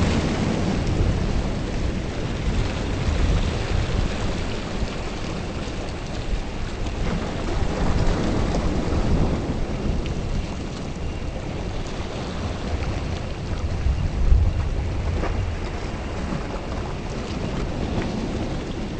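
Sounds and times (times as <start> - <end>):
thunder rumble: 0.0 - 5.8, 6.6 - 18.9.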